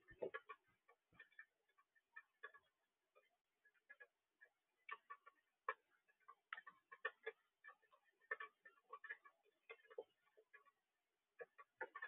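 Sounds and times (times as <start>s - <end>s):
faint light clicks and taps: 0.0s - 12.0s.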